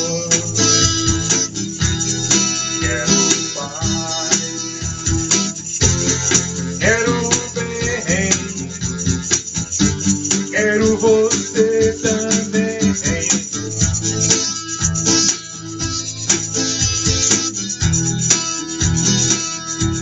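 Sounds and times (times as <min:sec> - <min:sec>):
acoustic guitar strumming: 0:00.0 - 0:20.0
electronic drum beat: 0:00.0 - 0:20.0
tambourine jingling: 0:00.0 - 0:20.0
wordless melody line: 0:00.0 - 0:20.0.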